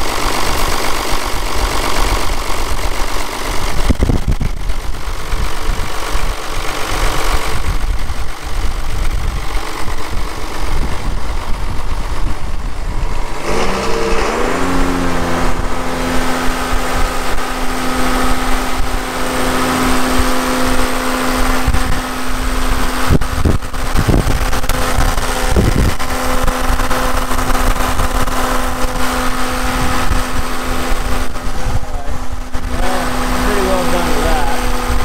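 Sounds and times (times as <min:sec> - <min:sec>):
diesel engine running steadily: 0:00.0 - 0:35.0.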